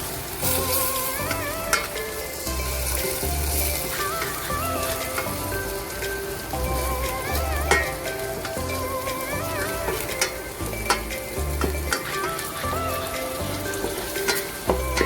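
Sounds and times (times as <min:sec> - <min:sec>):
background music with bass: 0:00.0 - 0:15.0
meat sizzling in a frying pan: 0:00.0 - 0:15.0.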